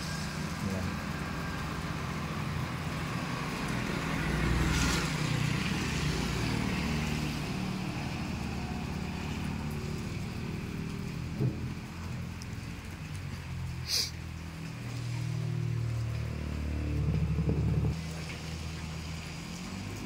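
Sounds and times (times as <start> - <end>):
rain hissing: 0.0 - 17.0, 17.8 - 20.0.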